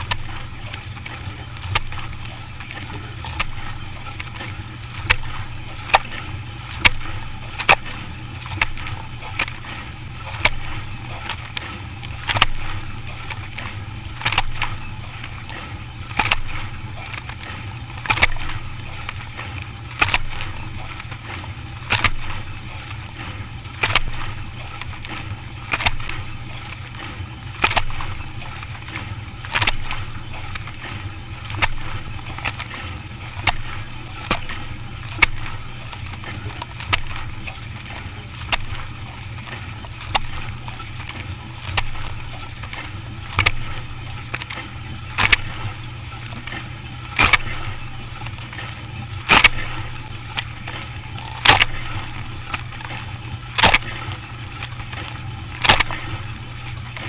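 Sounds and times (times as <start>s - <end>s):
dishwasher motor hum: 0.0s - 57.0s
water sloshing: 0.0s - 57.0s.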